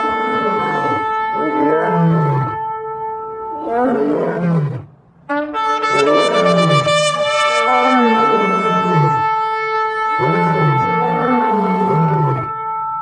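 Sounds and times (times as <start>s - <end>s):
deep wavering horn tone: 0.0s - 13.0s
ram's horn blasts: 0.0s - 13.0s.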